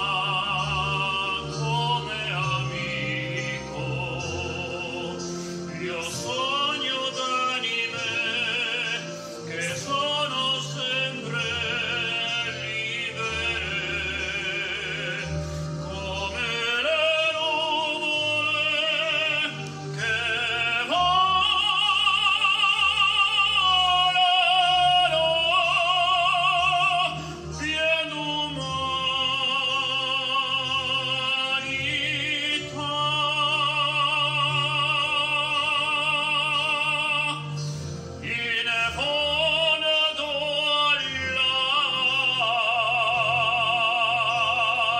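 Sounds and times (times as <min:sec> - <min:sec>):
instrumental accompaniment: 0:00.0 - 0:44.9
man singing operatically: 0:00.0 - 0:44.9.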